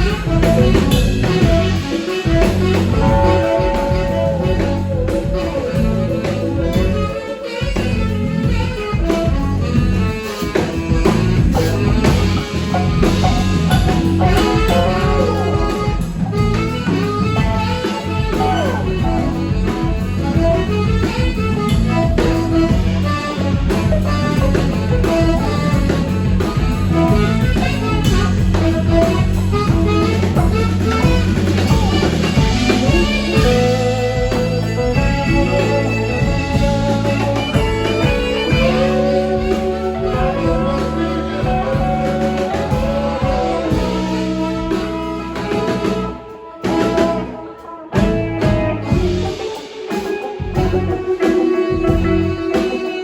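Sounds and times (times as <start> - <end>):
bass guitar: 0.0 - 53.0
drum kit: 0.0 - 53.0
electric guitar lead lines: 0.0 - 53.0.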